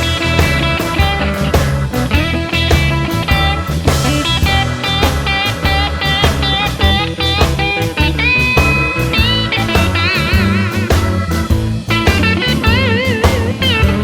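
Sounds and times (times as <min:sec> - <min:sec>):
blues band music: 0:00.0 - 0:14.0
lead guitar solo with bent notes: 0:00.0 - 0:14.0.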